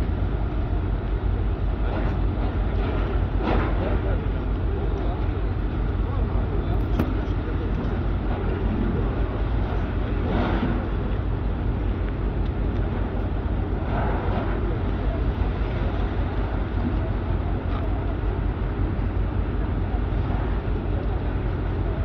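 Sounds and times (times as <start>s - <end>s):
diesel engines rumbling: 0.0s - 22.0s.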